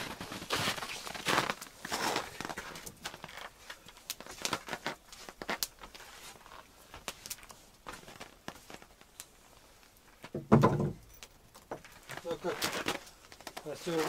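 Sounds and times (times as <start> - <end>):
campfire crackling: 0.0 - 14.0
log popping: 0.0 - 14.0.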